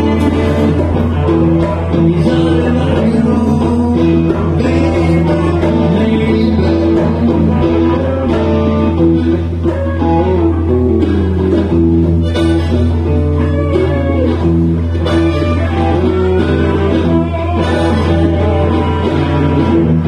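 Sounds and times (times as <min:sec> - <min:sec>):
drums: 0:00.0 - 0:20.0
guitars picking a melody: 0:00.0 - 0:20.0
low didgeridoo drone: 0:00.0 - 0:20.0.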